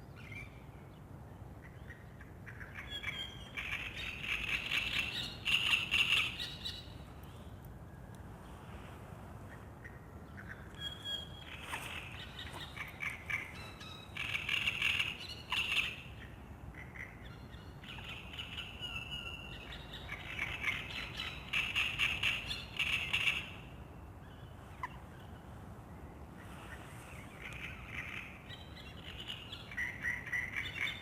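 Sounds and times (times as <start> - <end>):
birds chirping and trilling: 0.1 - 7.5, 9.5 - 25.5, 26.4 - 31.0.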